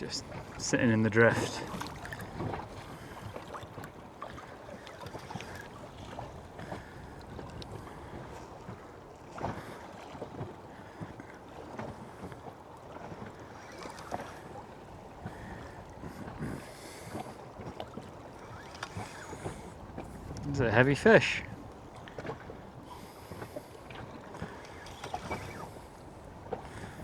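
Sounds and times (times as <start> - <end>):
water slapping boat hull: 0.0 - 27.0.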